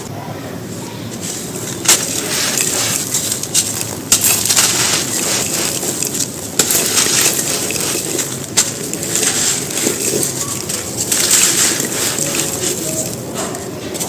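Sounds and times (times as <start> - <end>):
stones crunching and crumbling: 1.2 - 14.0
sharp cracks of stone: 1.8 - 13.3.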